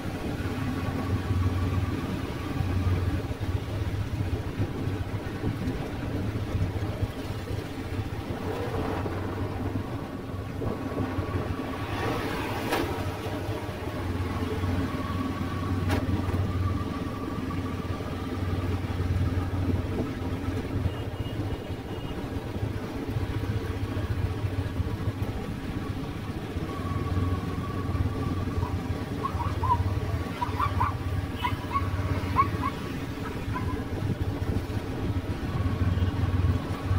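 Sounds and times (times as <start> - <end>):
motorbike engines passing: 0.0 - 36.9.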